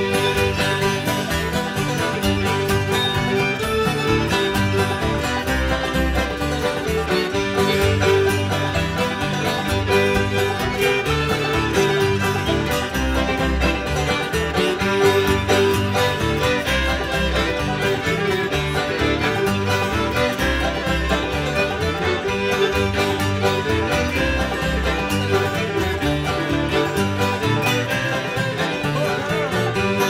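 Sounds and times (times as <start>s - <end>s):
string band playing dance tune: 0.0s - 30.0s.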